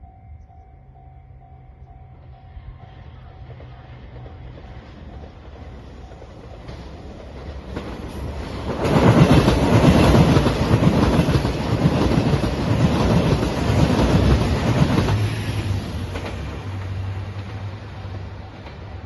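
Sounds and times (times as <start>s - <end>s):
diesel train passing: 0.0s - 19.0s
wheels clacking over rail joints: 3.5s - 19.0s.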